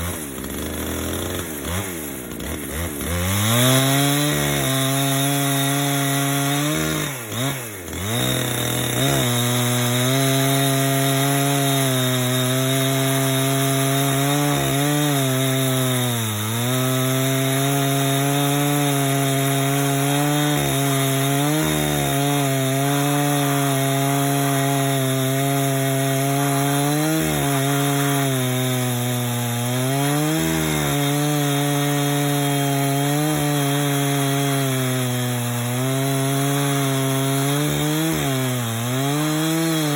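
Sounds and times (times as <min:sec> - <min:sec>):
chainsaw ripping log: 0:00.0 - 0:39.9.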